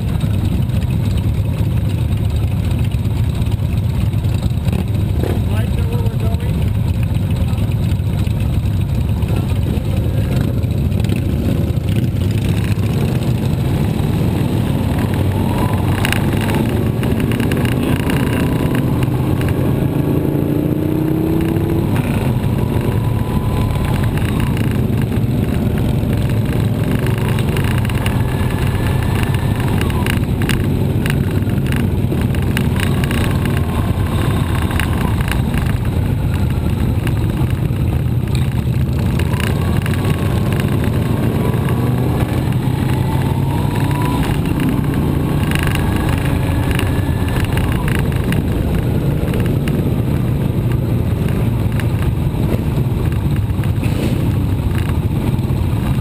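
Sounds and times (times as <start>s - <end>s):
motorcycle engine running: 0.0s - 56.0s
other motorcycles rumbling: 0.0s - 56.0s.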